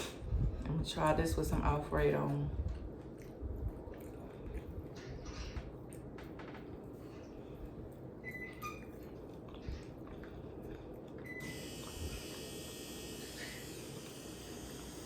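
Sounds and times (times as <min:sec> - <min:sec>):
person chewing food: 0:02.7 - 0:15.0.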